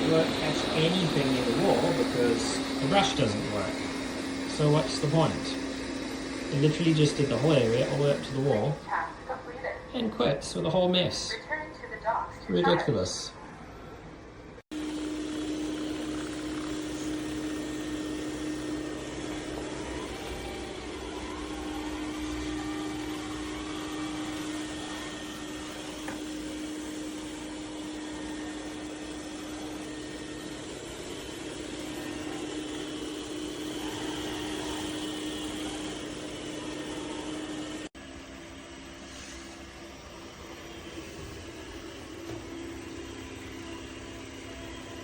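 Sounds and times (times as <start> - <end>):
robot vacuum motor hum: 0.0 - 11.4, 14.7 - 45.0.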